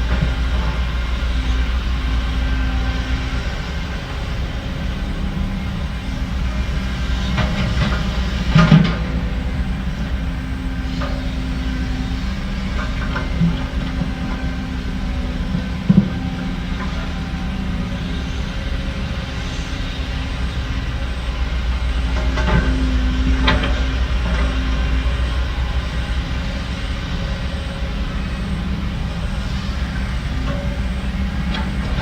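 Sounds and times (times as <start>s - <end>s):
heavy machinery diesel engines: 0.0s - 32.0s.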